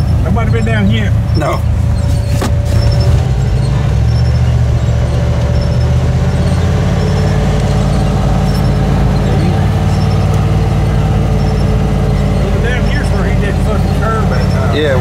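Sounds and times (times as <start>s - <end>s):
car engine drone from inside cab: 0.0s - 15.0s.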